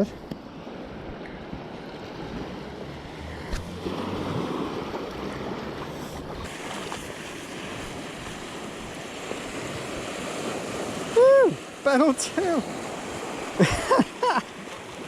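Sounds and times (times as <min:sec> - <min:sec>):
sea surf washing in: 0:00.0 - 0:15.0.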